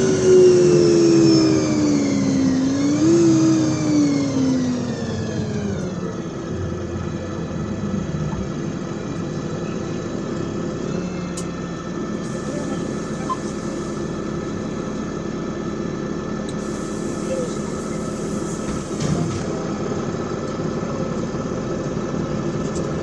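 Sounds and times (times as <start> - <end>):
bus drivetrain whine: 0.0 - 23.0
bus engine hum and rumble: 0.0 - 23.0.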